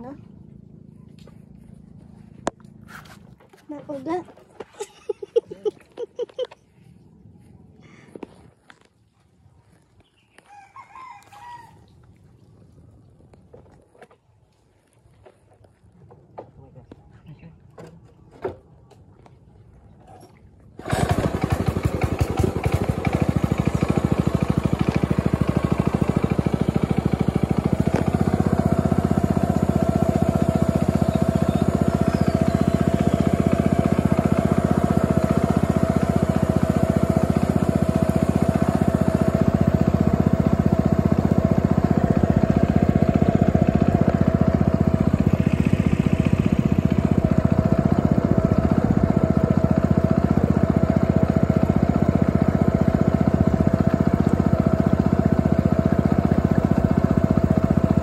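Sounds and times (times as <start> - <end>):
small boat engine running: 0.0 - 58.0.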